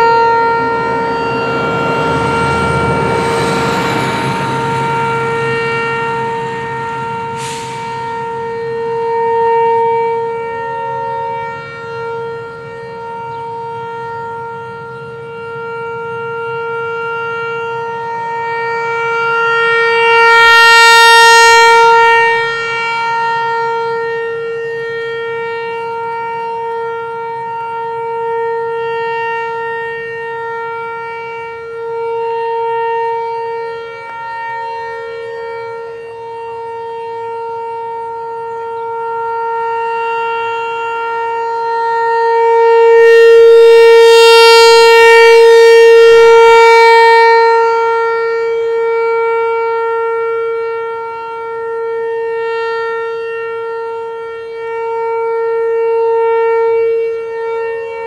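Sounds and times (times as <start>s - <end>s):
rotating warning siren: 0.0s - 58.0s.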